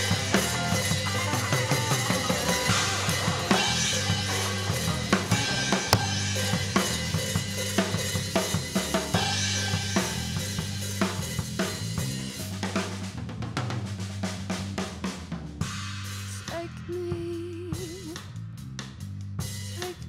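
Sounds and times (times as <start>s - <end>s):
drum kit steady beat: 0.0s - 20.0s
electric bass: 0.0s - 20.0s.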